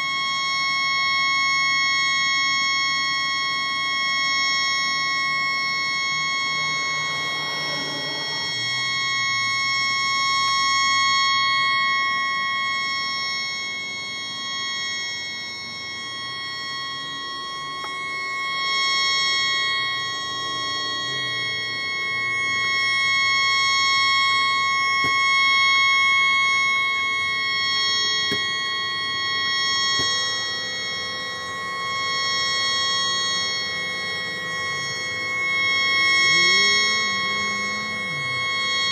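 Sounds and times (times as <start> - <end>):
tugboat horn sounding continuously: 0.0 - 38.9.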